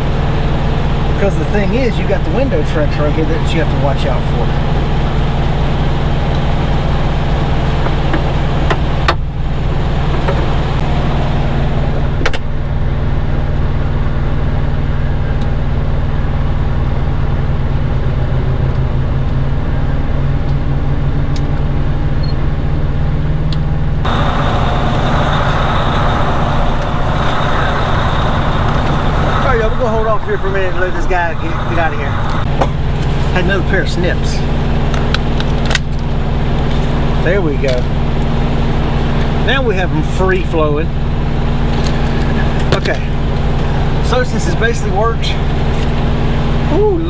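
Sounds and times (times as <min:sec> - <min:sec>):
diesel truck engine idling: 0:00.0 - 0:47.0.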